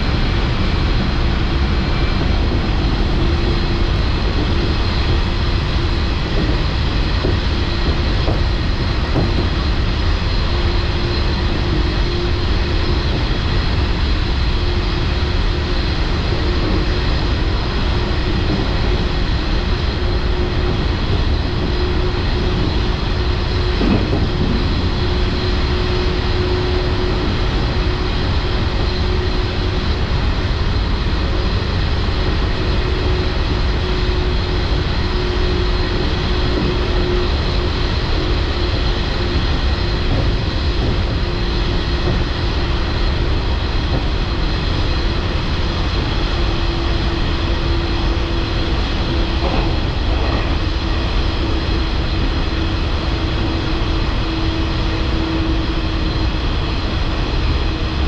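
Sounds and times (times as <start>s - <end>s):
electric train motor hum: 0.0s - 58.0s
wheels rumbling on rail: 0.0s - 58.0s.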